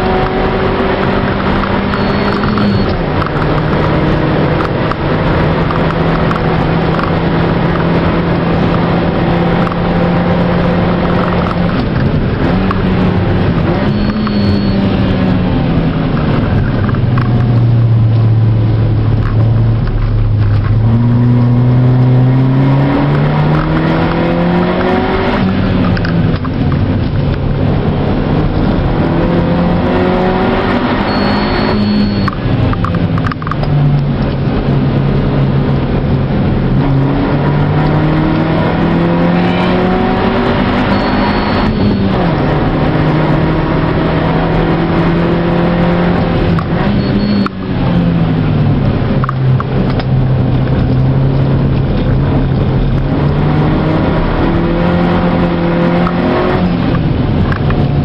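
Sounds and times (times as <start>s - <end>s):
car engine revving: 0.0s - 58.0s
tyre and road noise: 0.0s - 58.0s.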